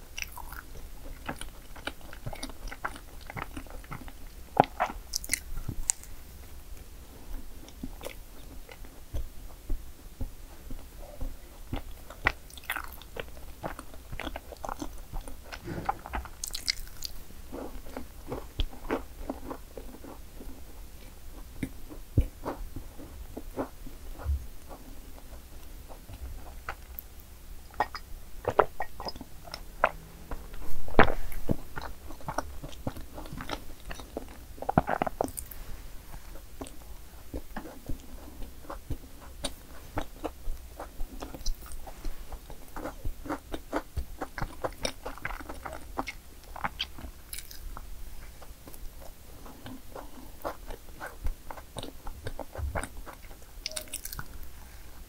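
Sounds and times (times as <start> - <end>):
chewing crunchy cake: 0.0 - 55.0.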